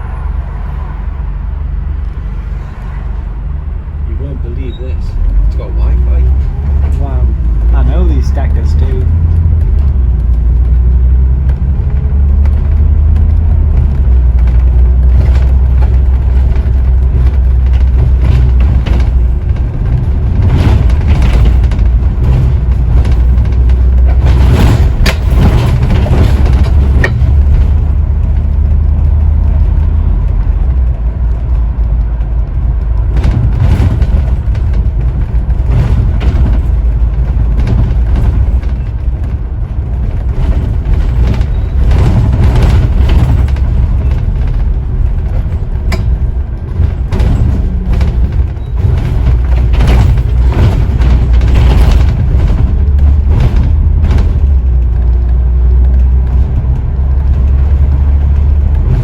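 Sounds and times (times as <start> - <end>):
bus engine drone: 0.0 - 59.0
bus body rattling: 0.6 - 59.0.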